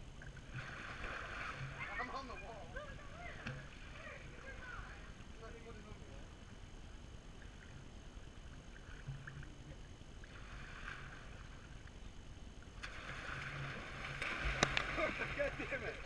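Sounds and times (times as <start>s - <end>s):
pool water lapping and splashing: 0.0s - 16.0s.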